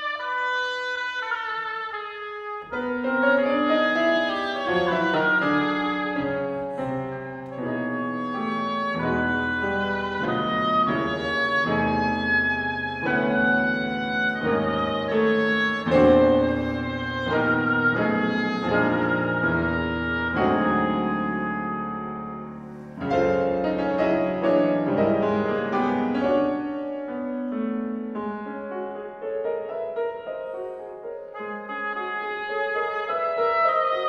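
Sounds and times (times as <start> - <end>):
oboe melody: 0.0 - 34.0
piano chords: 0.0 - 34.0.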